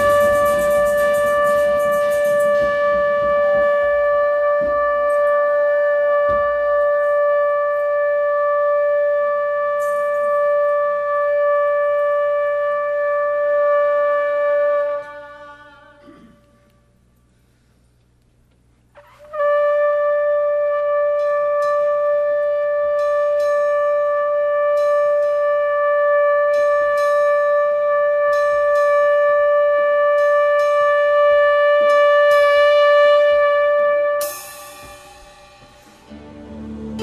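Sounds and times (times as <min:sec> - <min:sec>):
shofar blast: 0:00.0 - 0:16.2, 0:19.0 - 0:37.0.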